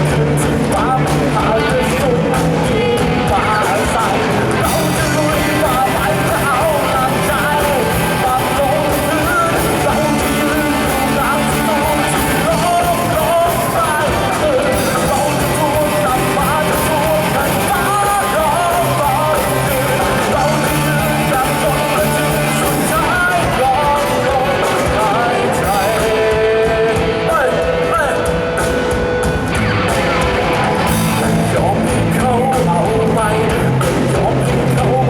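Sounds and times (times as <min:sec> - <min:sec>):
lead singer singing: 0:00.0 - 0:35.0
rock band playing: 0:00.0 - 0:35.0.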